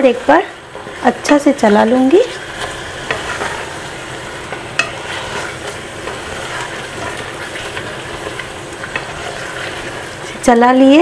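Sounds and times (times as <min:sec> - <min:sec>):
gravy sizzling in a pot: 0:00.0 - 0:11.0
spatula scraping a pot: 0:00.6 - 0:10.5.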